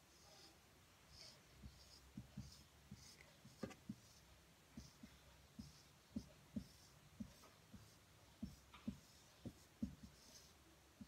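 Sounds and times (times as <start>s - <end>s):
marker pen scratching whiteboard: 0.0s - 11.0s.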